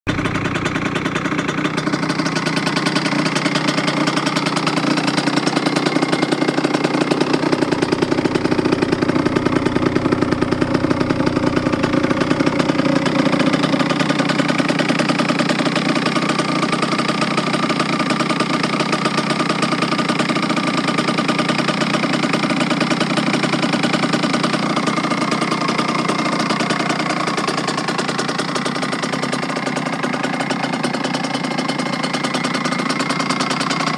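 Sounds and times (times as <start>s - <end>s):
two-stroke engine idling: 0.1s - 33.9s.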